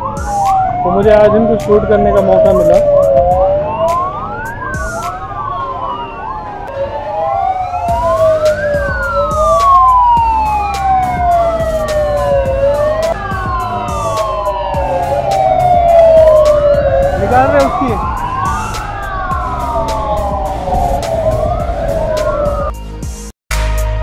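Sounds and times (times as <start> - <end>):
motorcycle engines rumbling: 0.0 - 22.7
traffic: 0.0 - 22.7
motorcycle sirens wailing: 0.0 - 22.8.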